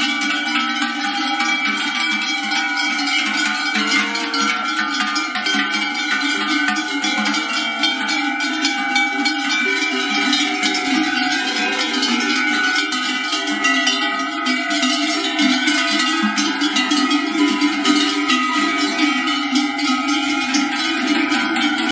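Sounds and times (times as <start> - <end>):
cowbells clanging: 0.0 - 21.9.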